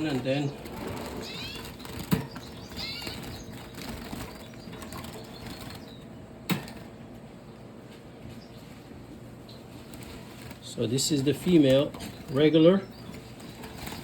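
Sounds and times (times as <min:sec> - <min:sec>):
fluttering and rustling in cage: 0:00.0 - 0:07.0, 0:07.9 - 0:14.0
small birds chirping: 0:00.0 - 0:14.0.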